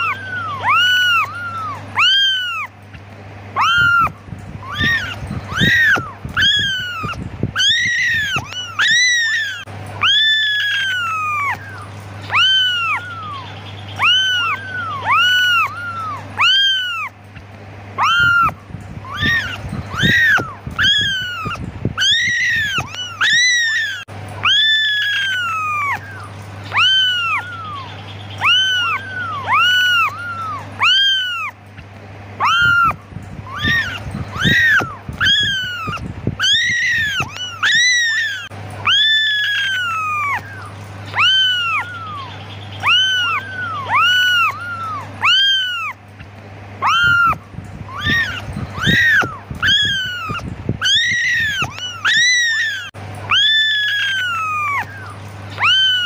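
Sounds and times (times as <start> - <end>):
kittens meowing: 0.0 - 56.0.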